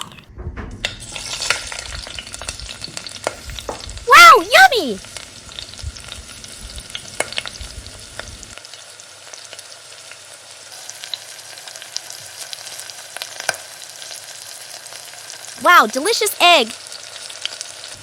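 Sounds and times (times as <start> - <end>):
oil sizzling with sharp crackles: 1.0 - 18.0.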